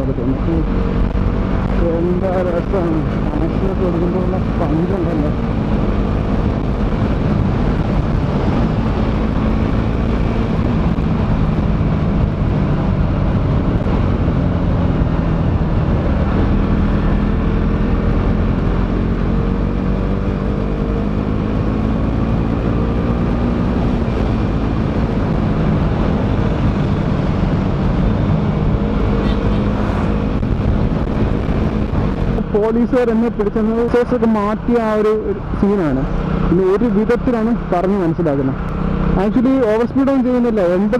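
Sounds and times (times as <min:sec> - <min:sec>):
wind rush: 0:00.0 - 0:40.1
motorcycle engine running: 0:00.0 - 0:40.9.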